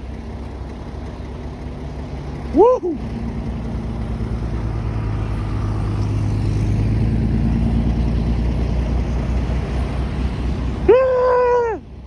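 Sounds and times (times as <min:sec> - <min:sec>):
vehicle driving past: 0:01.0 - 0:10.9.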